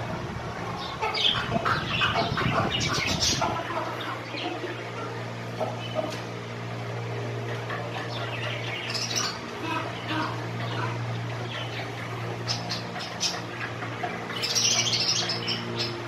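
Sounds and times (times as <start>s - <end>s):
low machine hum: 0.0s - 16.0s
budgerigars chirping and chattering: 0.8s - 6.2s, 7.5s - 16.0s.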